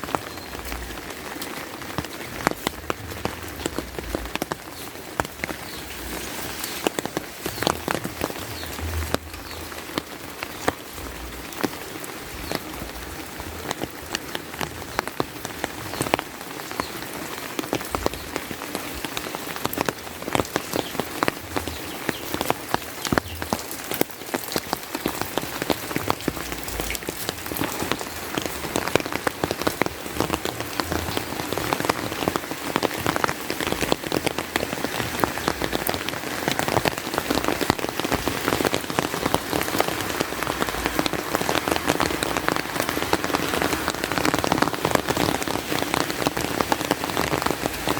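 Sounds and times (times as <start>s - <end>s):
rain with sharp drop strikes: 0.0s - 47.9s.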